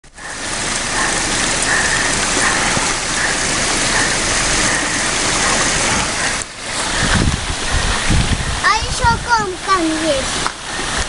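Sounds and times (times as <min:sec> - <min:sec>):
running water splashing: 0:00.0 - 0:11.0.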